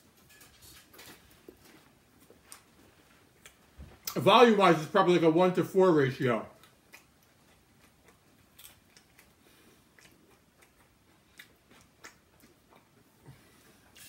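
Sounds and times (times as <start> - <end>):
person chewing food: 0.1 - 4.2, 6.5 - 14.0.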